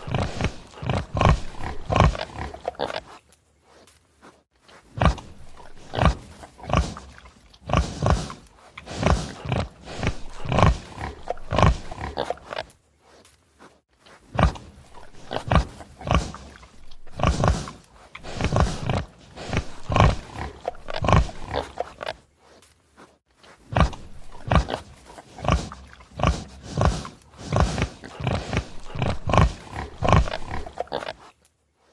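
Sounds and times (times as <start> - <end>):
pig grunting: 0.0 - 3.1, 4.9 - 12.7, 14.2 - 22.2, 23.6 - 31.2.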